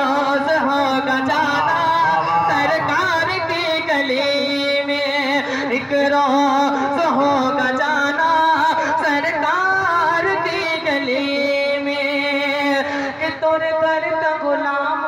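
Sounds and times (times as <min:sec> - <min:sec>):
man singing through a microphone: 0:00.0 - 0:15.0.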